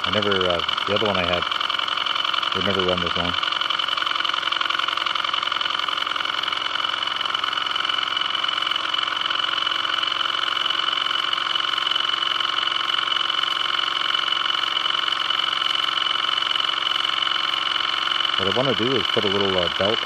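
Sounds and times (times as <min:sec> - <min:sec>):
toy steam engine clattering: 0:00.0 - 0:20.0.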